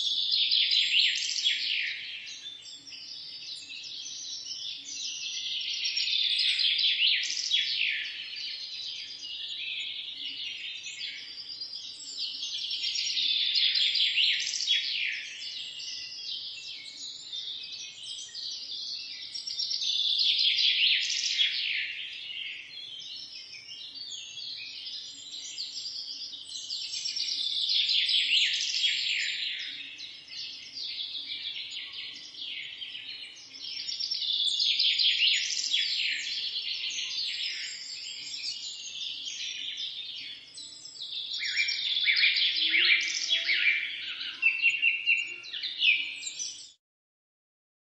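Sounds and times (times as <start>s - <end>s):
small birds chirping: 0.0s - 46.8s.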